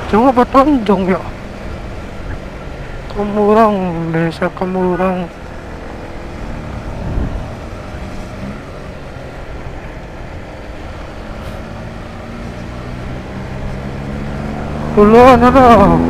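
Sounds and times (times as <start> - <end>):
motorcycle engine cruising: 0.0 - 16.0
road and wind rumble: 0.0 - 16.0.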